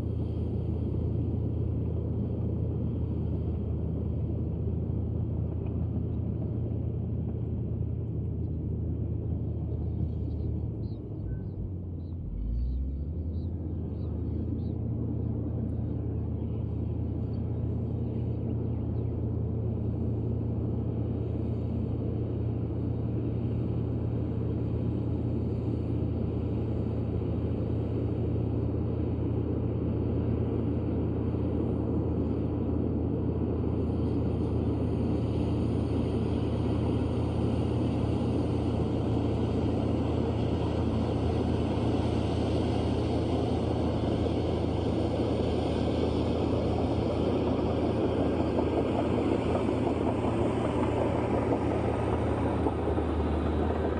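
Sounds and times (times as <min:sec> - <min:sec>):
bulldozer diesel engine rumbling: 0:00.0 - 0:53.9.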